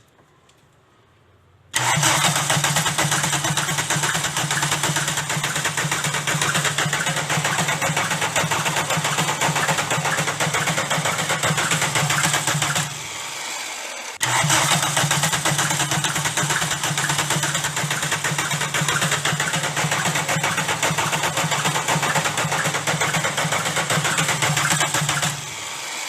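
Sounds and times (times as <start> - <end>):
diesel engine knocking: 1.8 - 13.1, 14.2 - 25.6.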